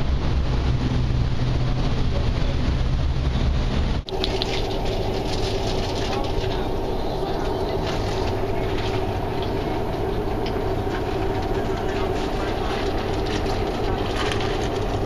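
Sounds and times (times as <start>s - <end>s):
ferry engine drone: 0.0s - 15.0s
machinery hum: 0.0s - 15.0s
rushing noise: 0.0s - 15.0s.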